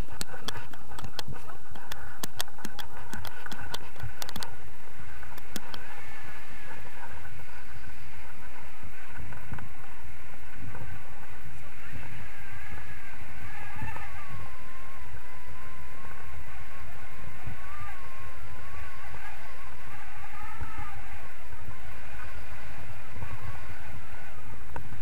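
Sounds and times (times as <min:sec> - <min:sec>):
wind buffeting microphone: 0:00.0 - 0:25.0
thin wavering whistle: 0:02.1 - 0:25.0.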